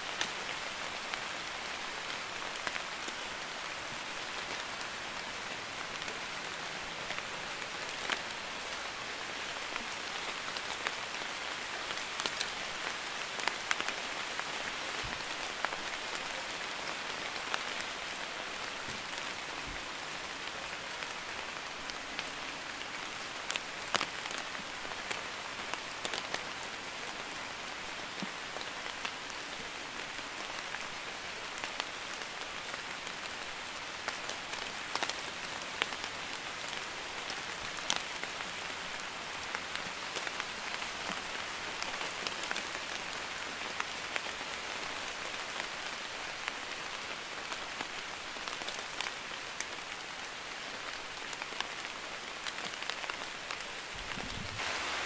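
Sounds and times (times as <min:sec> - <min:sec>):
light rain hissing: 0:00.0 - 0:55.0.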